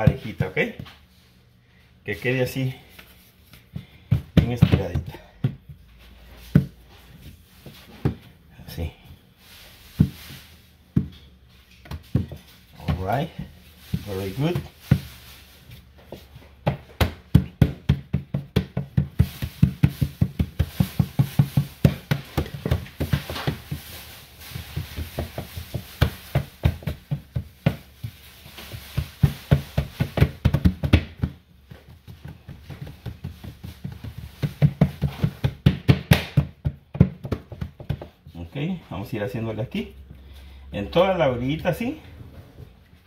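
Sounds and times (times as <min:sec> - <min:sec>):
hands patting dough in metal pan: 0:00.0 - 0:01.3, 0:02.0 - 0:42.1.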